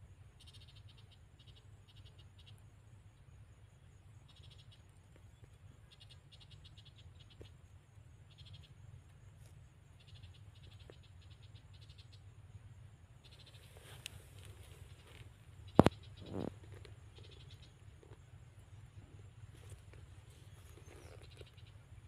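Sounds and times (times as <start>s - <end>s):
insect chirping trills: 0.0s - 22.0s.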